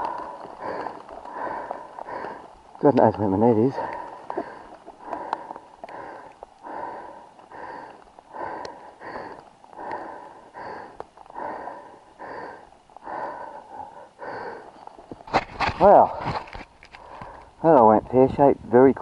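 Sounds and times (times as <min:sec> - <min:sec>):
man breathing hard: 0:00.0 - 0:02.6, 0:03.8 - 0:15.0, 0:16.2 - 0:17.6.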